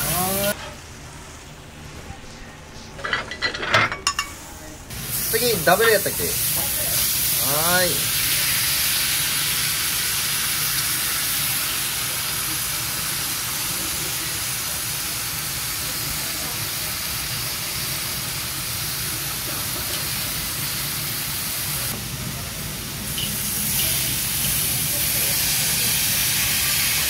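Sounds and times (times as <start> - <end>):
food sizzling in an iron pan: 0.0 - 0.6, 4.9 - 27.0.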